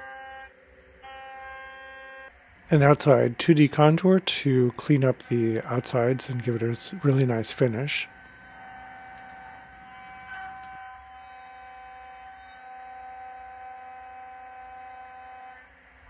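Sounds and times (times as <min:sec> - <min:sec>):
milling machine whine: 0:01.0 - 0:16.0.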